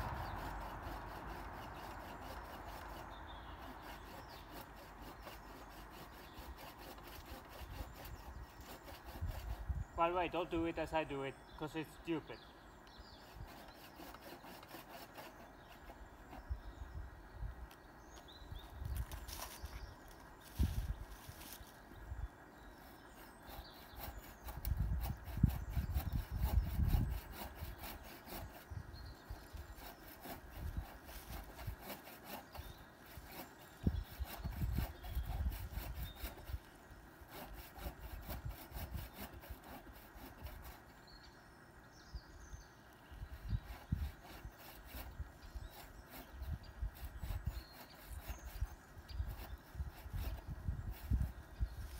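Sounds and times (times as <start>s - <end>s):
hand saw cutting branch: 0.0s - 12.2s, 12.9s - 16.6s, 18.1s - 21.8s, 22.7s - 41.2s, 43.0s - 51.9s.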